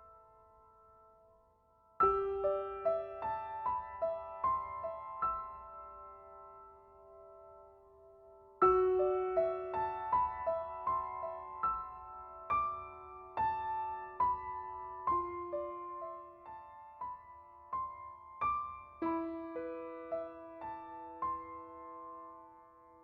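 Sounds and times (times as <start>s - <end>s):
slow solo piano music: 0.0s - 23.0s.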